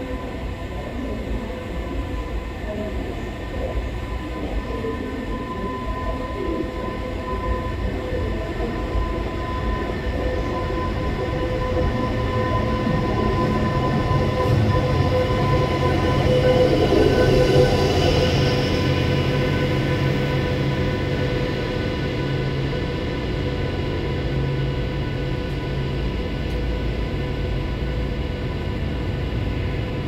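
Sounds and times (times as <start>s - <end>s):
electric locomotive rumble and hum: 0.0s - 30.0s.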